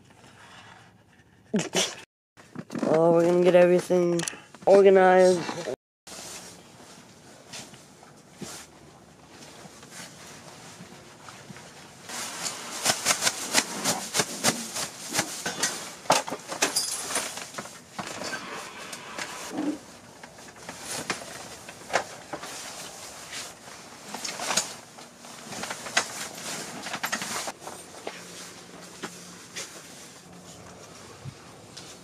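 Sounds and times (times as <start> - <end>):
plastic bag and bedding rustling: 5.0 - 32.0.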